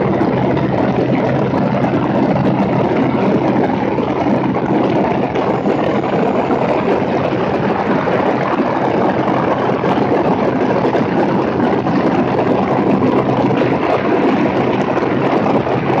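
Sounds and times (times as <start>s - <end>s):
aircraft engine and propeller drone: 0.0s - 16.0s
wind buffeting microphone: 0.0s - 16.0s.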